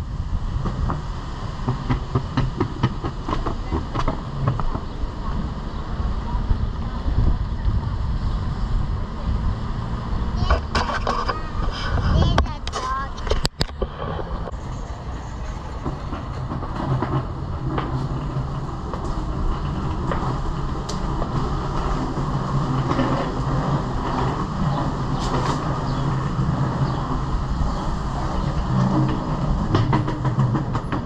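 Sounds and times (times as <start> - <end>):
wheels rumbling on pavement: 0.0 - 31.0
wheels clicking over joints: 0.6 - 31.0.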